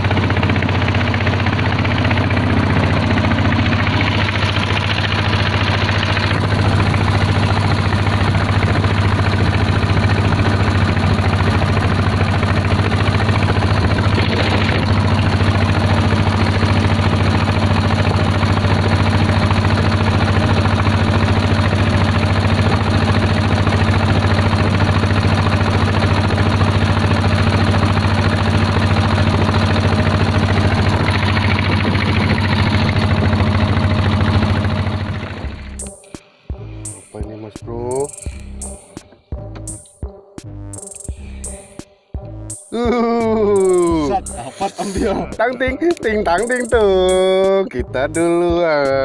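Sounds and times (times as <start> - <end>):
motorboat engine droning: 0.0 - 49.0.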